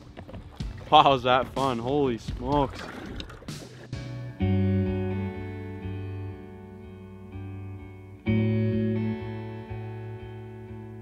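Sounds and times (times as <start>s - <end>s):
plucked string chords: 0.4s - 11.0s.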